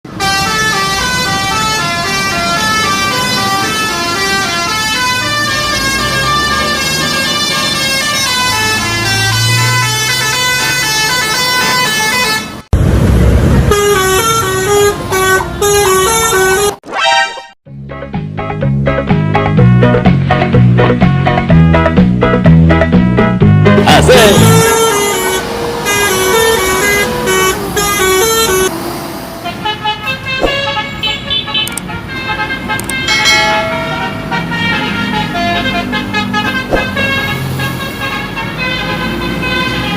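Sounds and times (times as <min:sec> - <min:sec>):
bus musical horns: 0:00.1 - 0:12.7, 0:13.6 - 0:17.6, 0:19.2 - 0:39.9.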